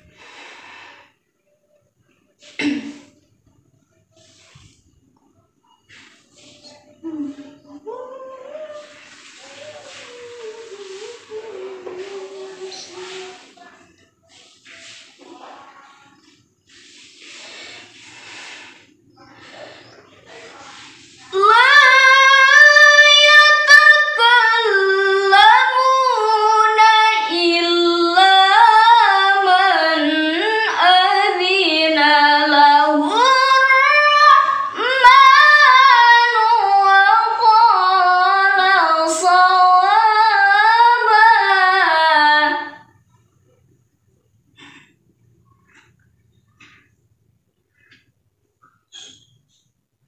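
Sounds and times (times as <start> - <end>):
woman reciting in melodic chant: 1.0 - 43.4.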